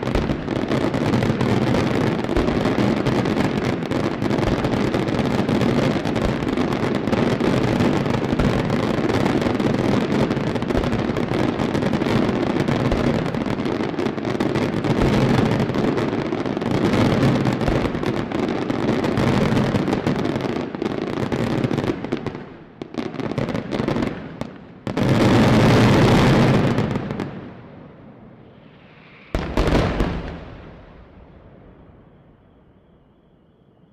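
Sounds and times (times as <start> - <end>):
fireworks exploding: 0.0 - 33.8.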